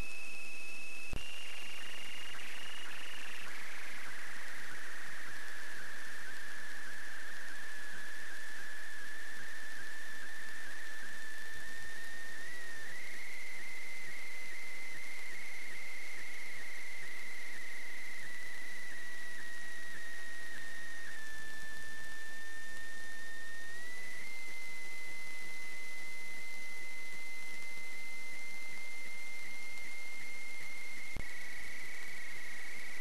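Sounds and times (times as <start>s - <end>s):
constant hiss: 0.0s - 33.0s
high-pitched electronic whine: 0.0s - 33.0s.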